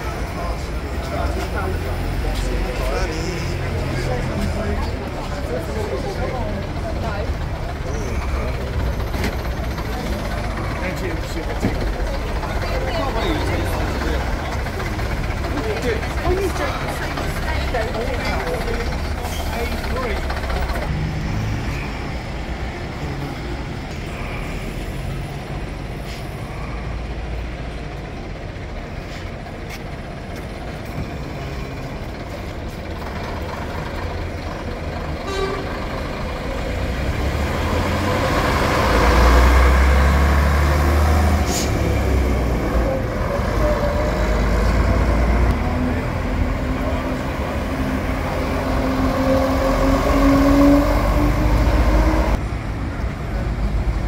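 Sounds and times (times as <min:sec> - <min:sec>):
bus engine rumbling: 0:00.0 - 0:54.0.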